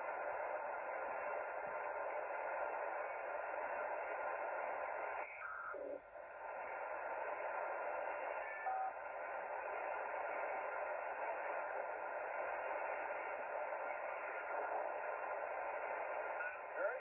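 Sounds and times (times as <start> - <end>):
radio band noise hiss: 0.0 - 17.0.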